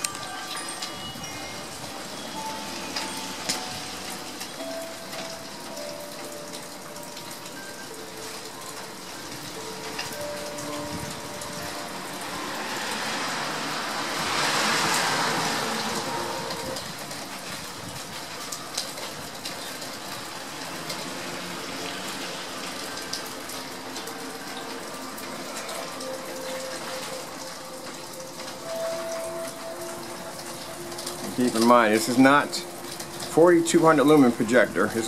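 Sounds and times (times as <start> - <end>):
rain falling: 0.0 - 35.0.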